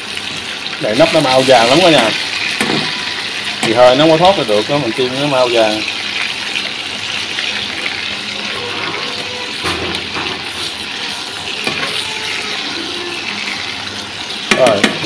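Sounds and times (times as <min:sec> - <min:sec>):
ribs sizzling in hot oil: 0:00.0 - 0:15.0.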